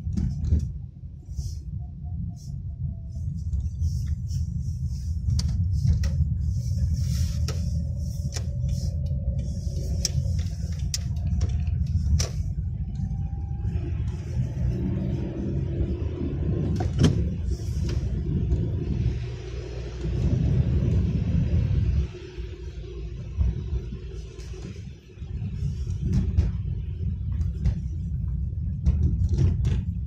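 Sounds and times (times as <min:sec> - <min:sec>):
car engine and tyres rumble: 0:00.0 - 0:30.0.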